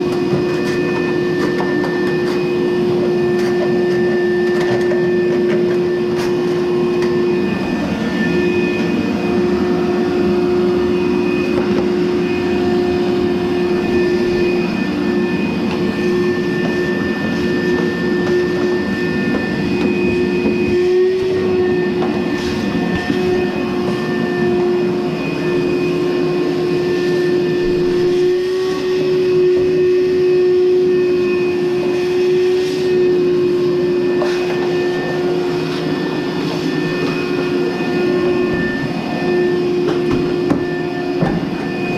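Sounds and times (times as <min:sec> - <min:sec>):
clothes dryer whining and rumbling: 0:00.0 - 0:41.9.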